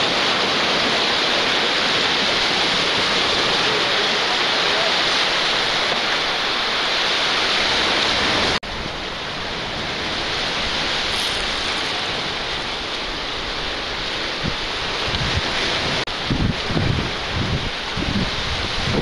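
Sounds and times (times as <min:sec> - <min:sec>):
sea waves breaking on rocks: 0:00.0 - 0:19.0
wind on microphone: 0:00.0 - 0:19.0.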